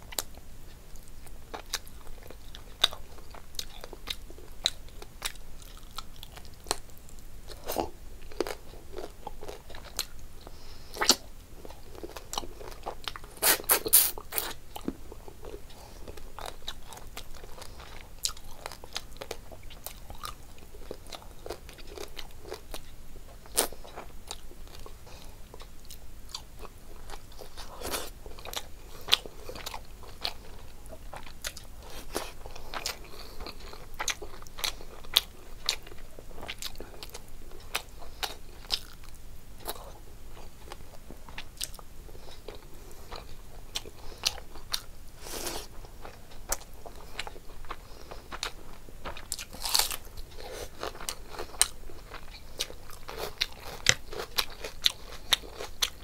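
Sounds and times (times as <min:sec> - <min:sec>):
person chewing food: 0:00.1 - 0:56.0.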